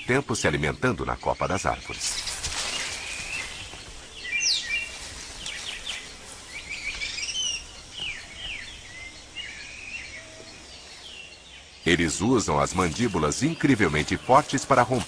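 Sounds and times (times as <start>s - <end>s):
birds chirping and whistling: 0.0s - 15.0s
rainforest background hiss: 0.0s - 15.0s.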